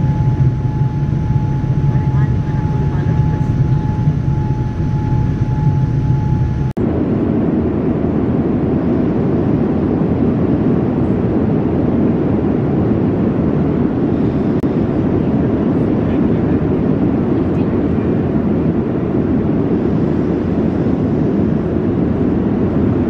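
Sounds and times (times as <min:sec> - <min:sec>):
airliner cabin roar: 0:00.0 - 0:23.0.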